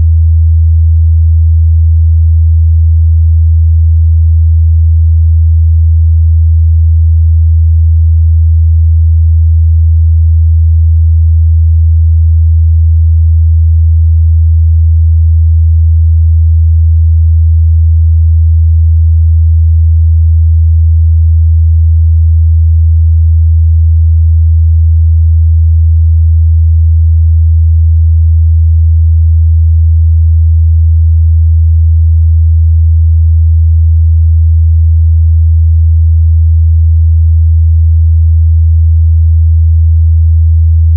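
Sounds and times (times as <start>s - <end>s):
deep sine-wave test tone: 0.0s - 40.9s.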